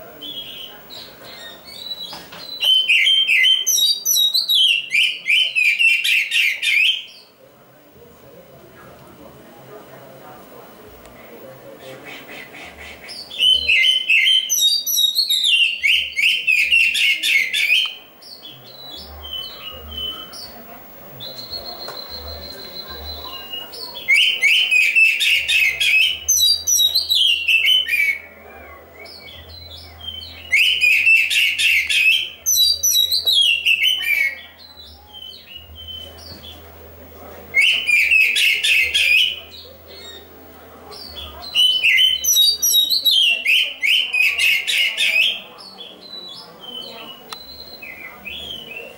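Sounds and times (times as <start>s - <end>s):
bird singing chattering notes: 0.0s - 7.4s, 13.0s - 36.8s, 37.5s - 48.9s.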